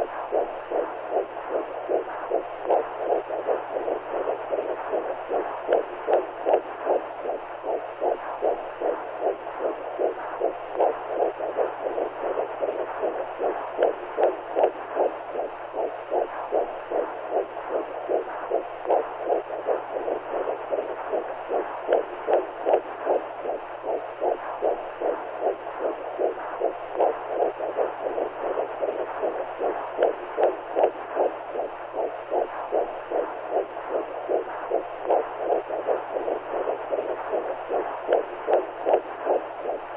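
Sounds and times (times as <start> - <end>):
constant muffled hiss: 0.0 - 39.9
steady low hum: 0.0 - 39.9.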